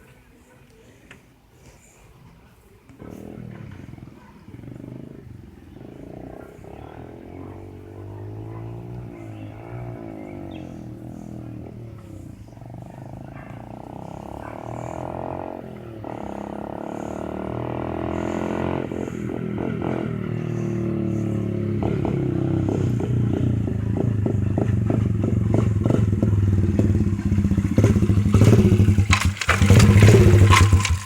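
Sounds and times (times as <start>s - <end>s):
dirt bike engine revving: 3.0s - 31.0s.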